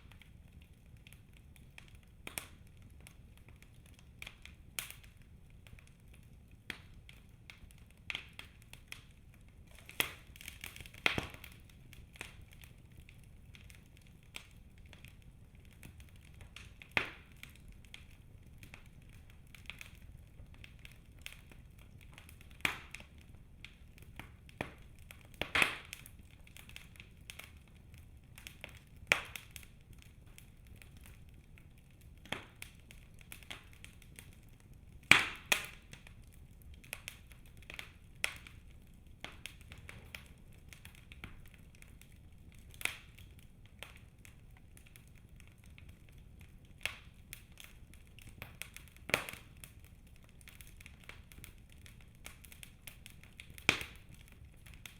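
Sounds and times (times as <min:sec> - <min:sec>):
low rumble of flames: 0:00.0 - 0:54.9
wood fire crackling and popping: 0:00.0 - 0:54.9.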